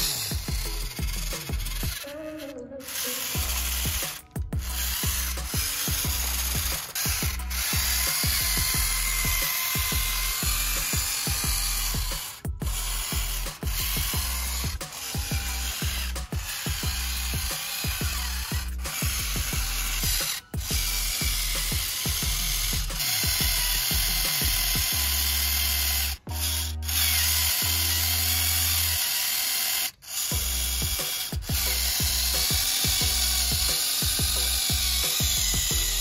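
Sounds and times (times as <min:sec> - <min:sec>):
music with heavy bass and beat: 0:00.0 - 0:02.0, 0:03.4 - 0:26.9, 0:30.3 - 0:36.0
small electric motor whirring: 0:00.0 - 0:36.0.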